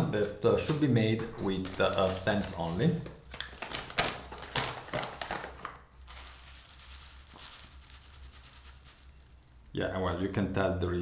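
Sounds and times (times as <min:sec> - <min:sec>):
paper bag crinkling: 0:00.1 - 0:09.5.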